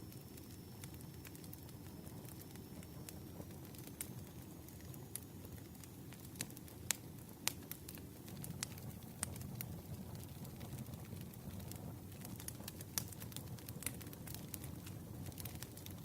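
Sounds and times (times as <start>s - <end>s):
burning wood snapping and popping: 0.0s - 16.0s
low rumble of fire: 0.0s - 16.0s.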